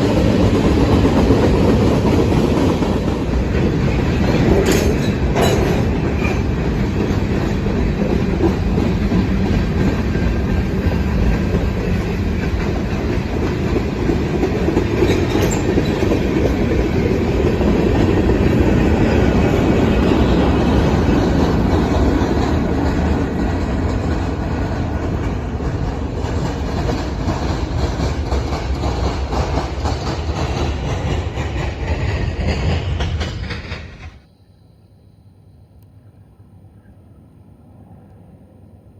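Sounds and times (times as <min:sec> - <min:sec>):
train cars rolling past: 0:00.0 - 0:34.4
wheel noise on rails: 0:00.0 - 0:34.4.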